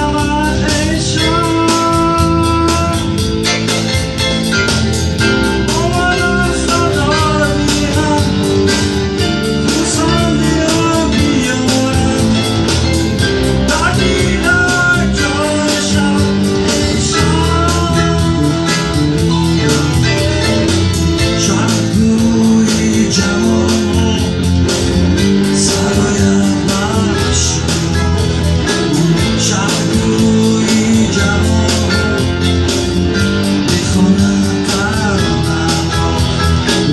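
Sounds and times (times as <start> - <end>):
live song with guitar band: 0.0 - 36.9.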